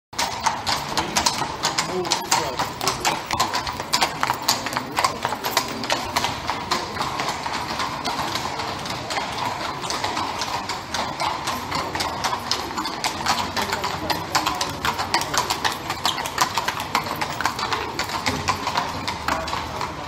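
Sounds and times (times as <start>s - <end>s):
hooves clip-clopping on stone: 0.2s - 20.0s.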